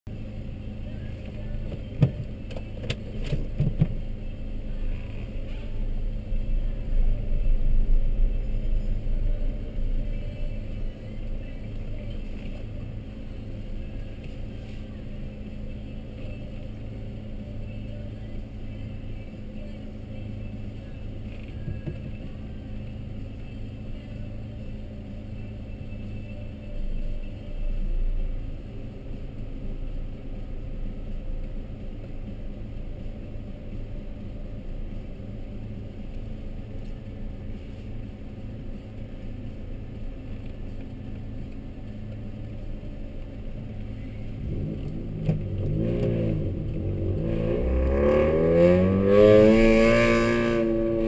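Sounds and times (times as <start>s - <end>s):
car engine idling: 0.1s - 51.0s.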